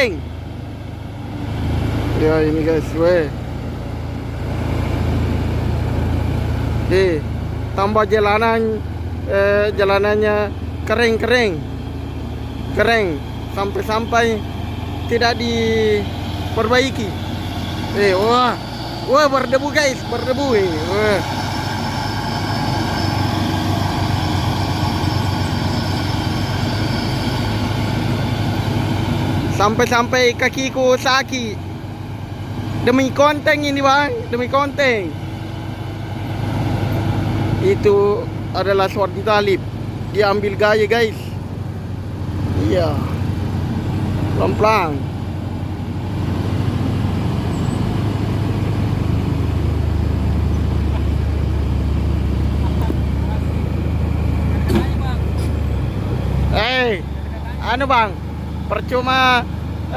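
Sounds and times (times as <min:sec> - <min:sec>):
truck diesel engine idling: 0:00.0 - 0:59.9.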